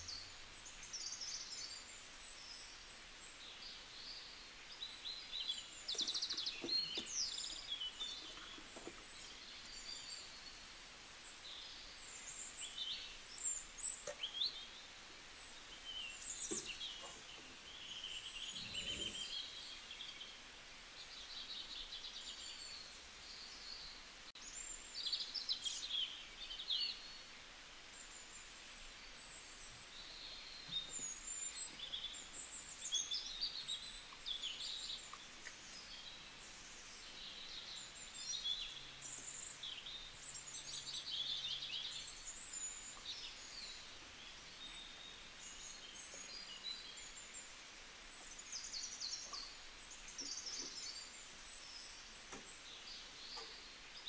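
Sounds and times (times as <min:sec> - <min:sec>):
birds chirping and trilling: 0:00.0 - 0:10.6, 0:11.3 - 0:20.4, 0:28.0 - 0:54.0
faint background hiss: 0:00.0 - 0:54.0.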